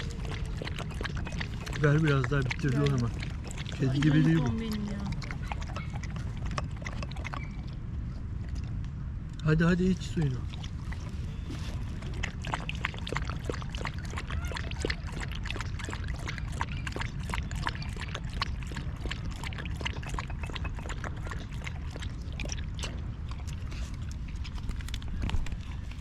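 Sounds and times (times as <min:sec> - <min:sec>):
cat lapping water: 0:00.0 - 0:08.7, 0:09.9 - 0:26.0
low steady rumble: 0:00.0 - 0:26.0.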